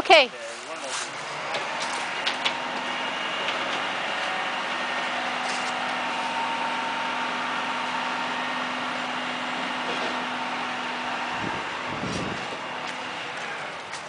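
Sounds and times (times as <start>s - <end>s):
truck engines idling: 0.0s - 14.0s.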